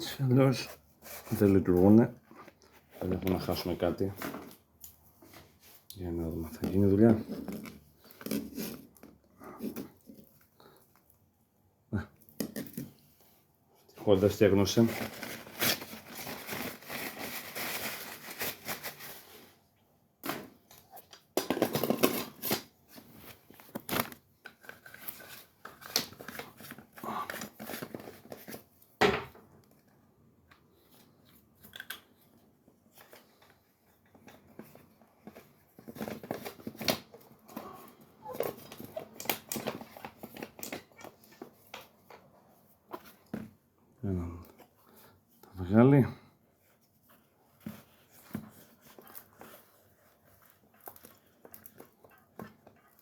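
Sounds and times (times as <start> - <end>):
rustling and crinkling: 0.2 - 11.6, 12.2 - 53.0.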